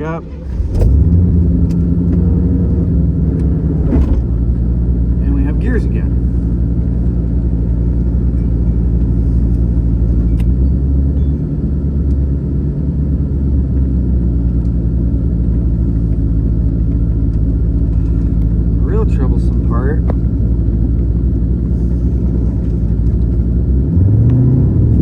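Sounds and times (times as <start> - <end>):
car engine low rumble: 0.0 - 25.0.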